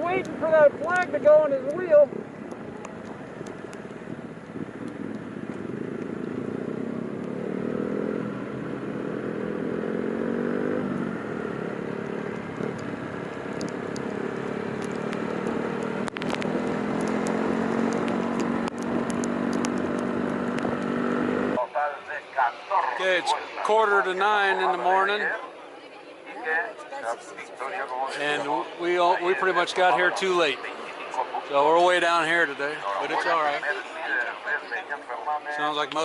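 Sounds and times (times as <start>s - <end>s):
motorcycle engines running: 0.0s - 25.7s, 26.5s - 36.0s.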